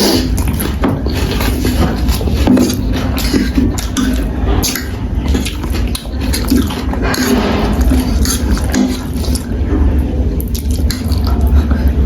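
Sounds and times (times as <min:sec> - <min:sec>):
slurping and chewing noodles: 0:00.0 - 0:12.0.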